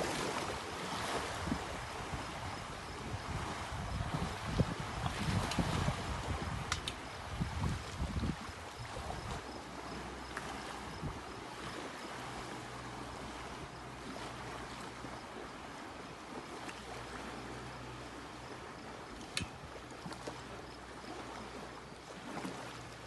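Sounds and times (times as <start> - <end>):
faint boat engine hum: 0.0 - 23.0
waves lapping against shore: 0.0 - 23.0.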